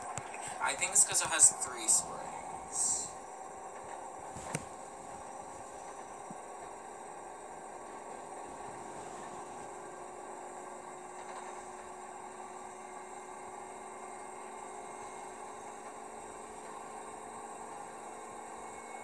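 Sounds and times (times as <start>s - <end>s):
faint constant whine: 0.0s - 19.0s
washing machine spinning: 0.0s - 19.0s.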